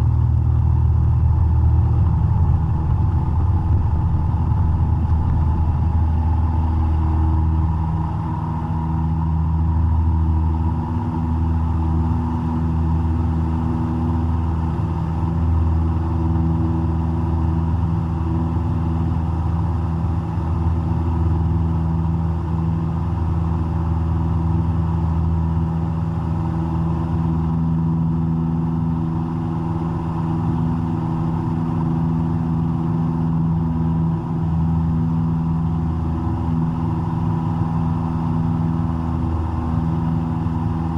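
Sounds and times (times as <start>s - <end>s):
airplane engine and propeller: 0.0s - 40.9s.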